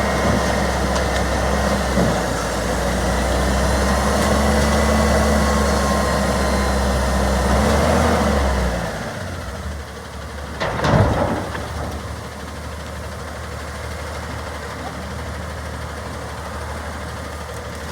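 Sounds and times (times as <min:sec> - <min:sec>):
garbage truck engine running: 0:00.0 - 0:17.9.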